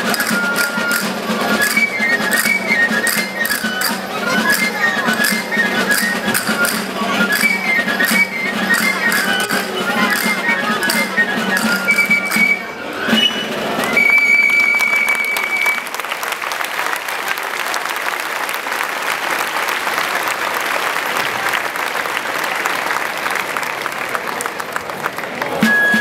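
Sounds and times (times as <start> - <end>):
crowd applauding: 0.0 - 26.0.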